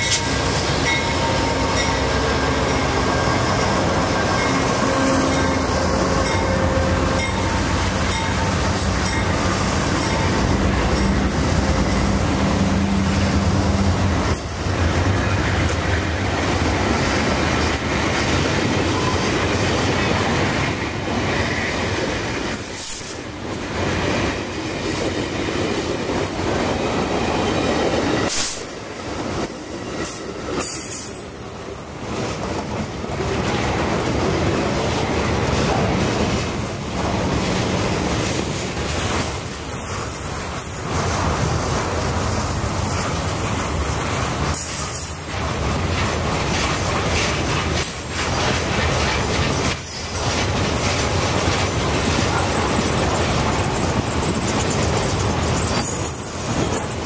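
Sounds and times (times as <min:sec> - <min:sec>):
railcars rolling past: 0:00.0 - 0:57.0.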